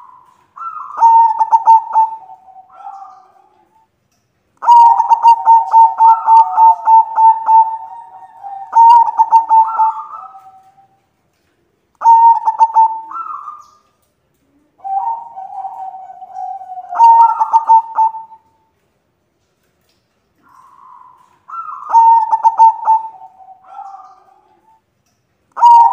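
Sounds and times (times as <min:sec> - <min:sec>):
dove cooing: 0:00.0 - 0:03.9, 0:04.6 - 0:11.0, 0:12.0 - 0:13.8, 0:14.4 - 0:18.6, 0:20.4 - 0:24.8, 0:25.6 - 0:25.9.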